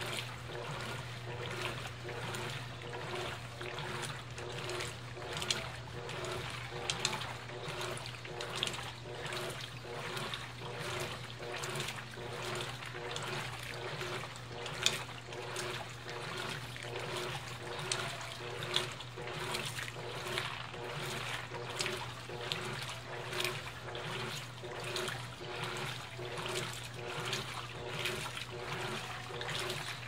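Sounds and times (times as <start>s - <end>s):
washing machine motor hum: 0.0s - 30.0s
water churning in washing machine: 0.0s - 30.0s.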